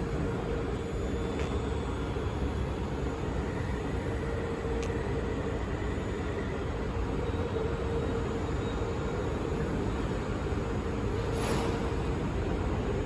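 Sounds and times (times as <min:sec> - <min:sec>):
constant mid-pitched tone: 0:00.0 - 0:11.2
metro train running hum: 0:00.0 - 0:13.0.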